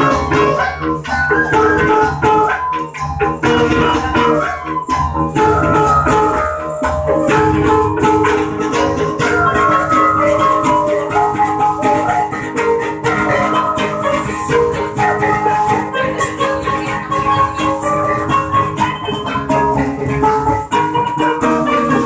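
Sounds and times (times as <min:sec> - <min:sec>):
bamboo flute melody: 0:00.0 - 0:22.0
bamboo percussion rattling: 0:00.0 - 0:22.0.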